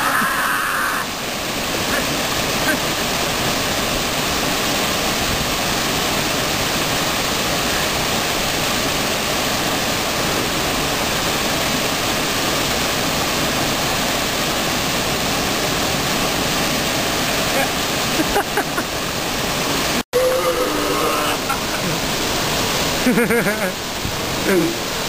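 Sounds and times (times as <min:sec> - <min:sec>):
waterfall pouring into pool: 0:00.0 - 0:25.0.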